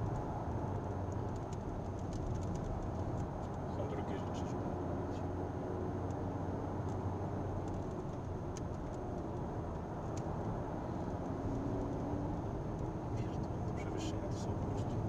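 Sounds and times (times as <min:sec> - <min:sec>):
car engine drone: 0:00.0 - 0:15.0
tyre and road rumble: 0:00.0 - 0:15.0.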